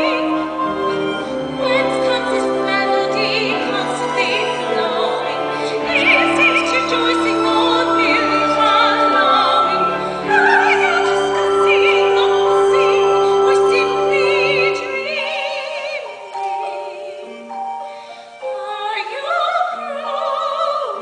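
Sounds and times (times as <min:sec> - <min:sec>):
sustained instrumental accompaniment: 0:00.0 - 0:20.0
woman singing operatic ballad: 0:00.0 - 0:21.0.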